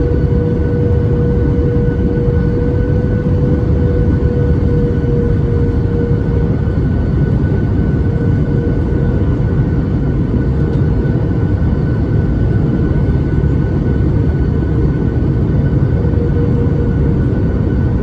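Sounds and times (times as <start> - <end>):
jet engines heard from cabin: 0.0 - 18.0.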